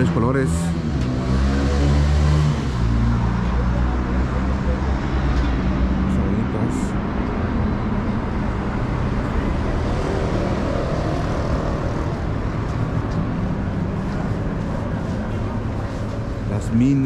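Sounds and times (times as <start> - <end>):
busy market background rumble: 0.0 - 17.0.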